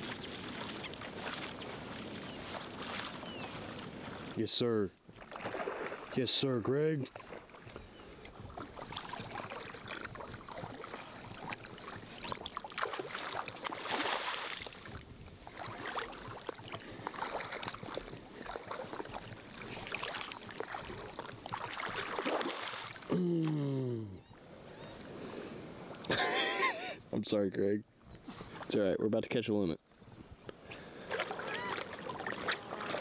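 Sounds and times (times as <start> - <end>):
wading through shallow water: 0.0 - 27.0, 30.0 - 33.0.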